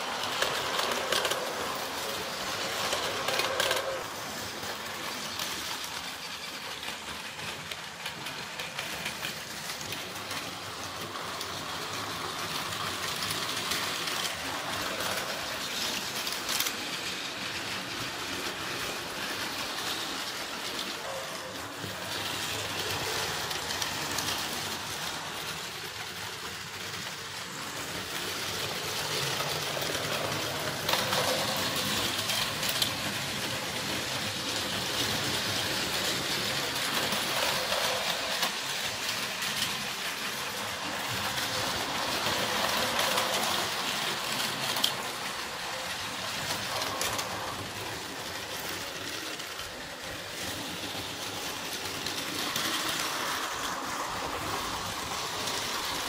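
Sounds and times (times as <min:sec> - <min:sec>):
toy trains whirring on plastic track: 0:00.0 - 0:56.0.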